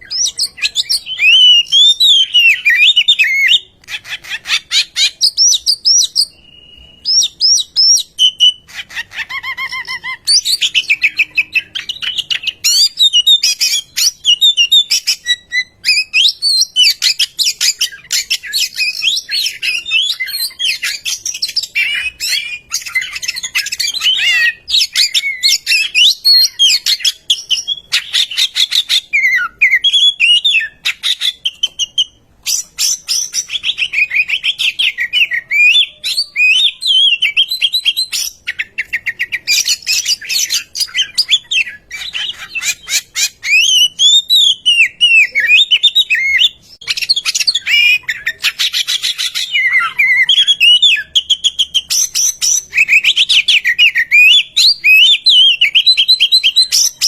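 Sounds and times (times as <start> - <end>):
bird singing whistled phrases: 0.0 - 57.0.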